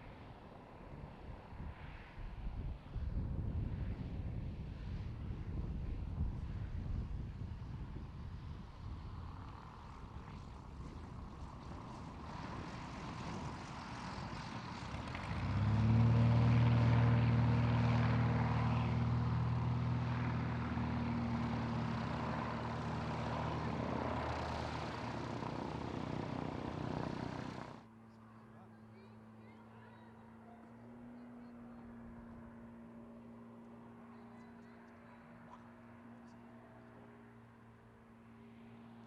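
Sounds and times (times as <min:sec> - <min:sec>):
propeller aircraft engine: 0:00.0 - 0:39.0.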